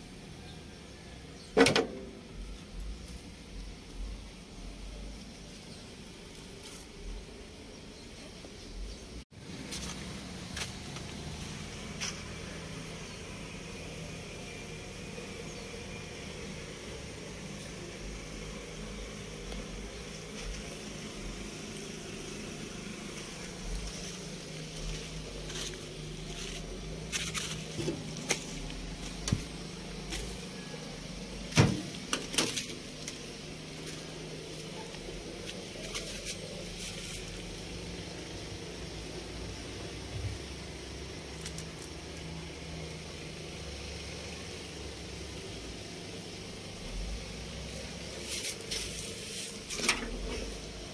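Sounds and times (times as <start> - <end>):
engine humming steadily: 0.0 - 50.9.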